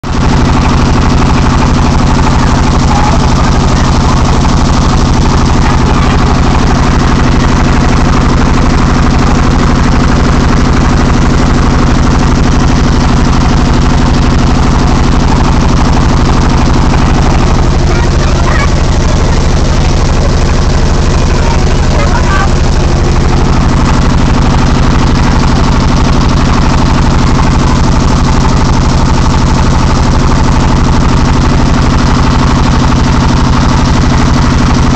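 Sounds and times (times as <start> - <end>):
diesel boat engine chugging: 0.0 - 34.9.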